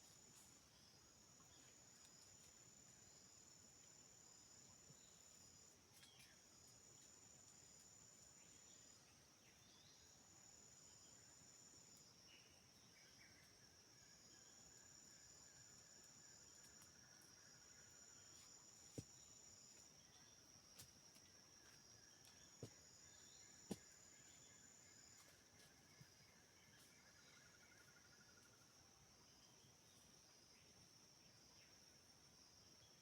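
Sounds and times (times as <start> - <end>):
forest insects droning: 0.0 - 33.0.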